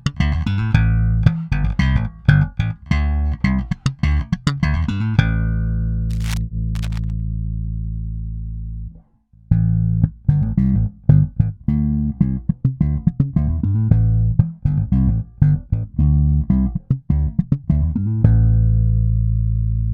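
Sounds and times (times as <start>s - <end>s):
plucked bass guitar notes: 0.0s - 19.9s.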